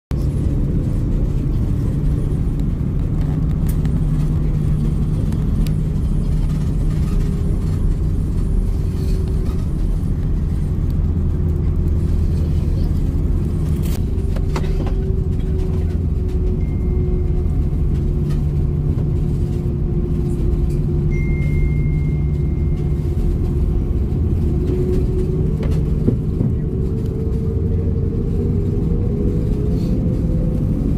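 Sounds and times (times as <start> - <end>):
aircraft cabin engine hum: 0.1 - 30.9.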